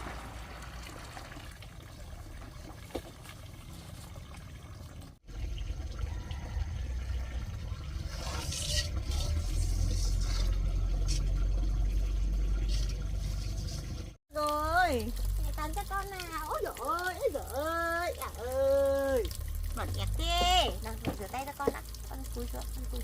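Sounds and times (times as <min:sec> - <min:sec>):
water pouring into container: 0:00.0 - 0:23.0
water splashes: 0:00.0 - 0:23.0.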